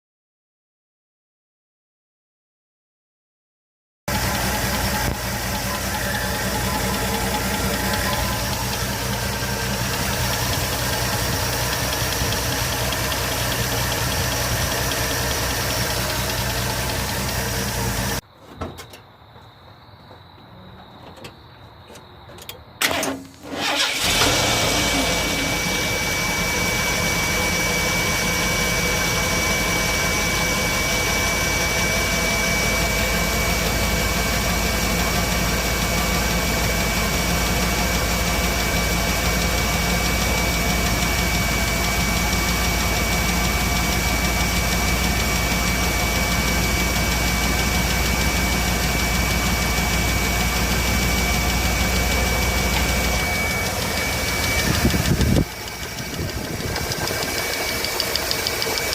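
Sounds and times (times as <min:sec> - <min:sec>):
engine cranking and idling: 0:04.1 - 0:18.2, 0:22.8 - 0:58.9.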